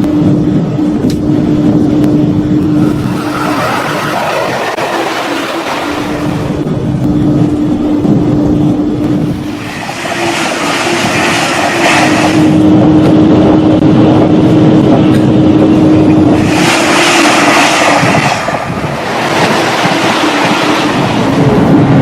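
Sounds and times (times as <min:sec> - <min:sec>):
train rolling rattle: 0:00.1 - 0:22.0.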